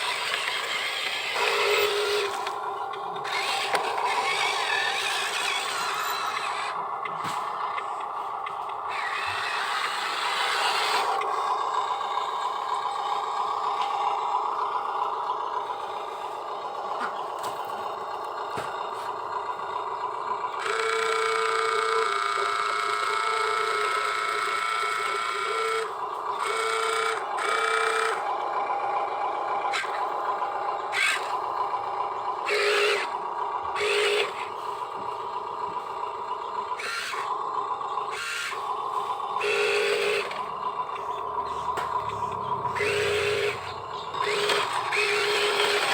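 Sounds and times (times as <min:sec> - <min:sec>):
electric motors whining: 0:00.0 - 0:45.9.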